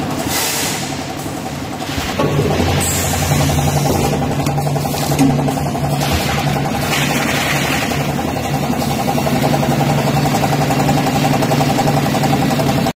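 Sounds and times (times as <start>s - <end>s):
packing machine humming and pulsing: 0.0s - 13.0s.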